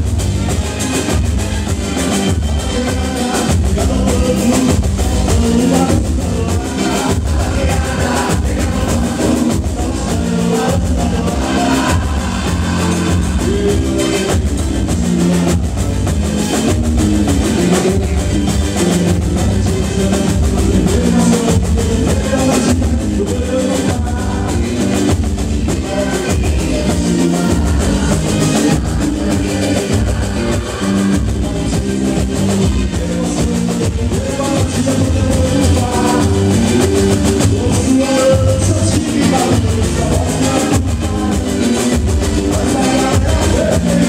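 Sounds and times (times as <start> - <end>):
live band with drums and melody: 0.0 - 44.0.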